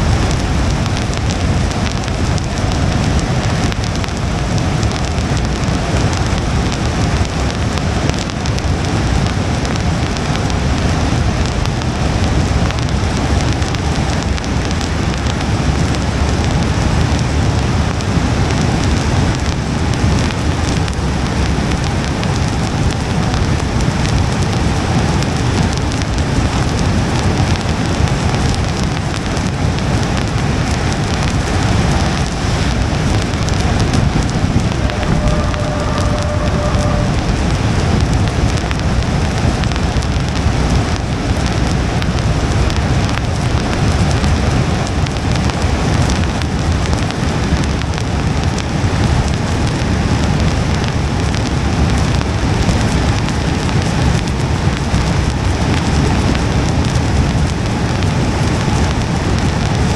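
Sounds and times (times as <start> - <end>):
low road noise rumble: 0.0 - 59.9
rain pattering on car windshield: 0.0 - 59.9.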